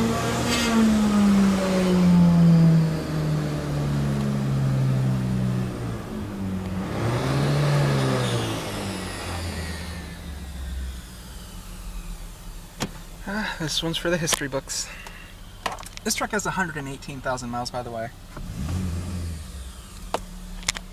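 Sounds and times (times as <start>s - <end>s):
engine revving: 0.0s - 20.9s.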